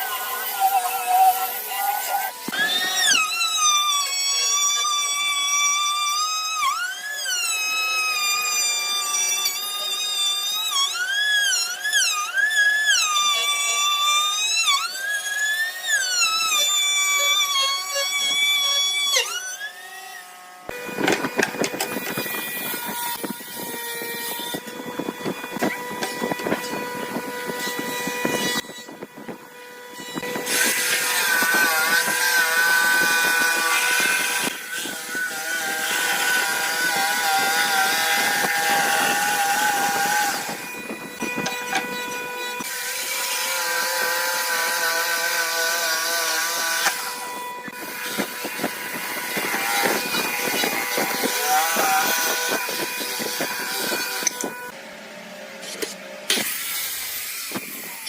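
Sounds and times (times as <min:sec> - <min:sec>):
power tools cutting wood: 0:00.0 - 0:58.0.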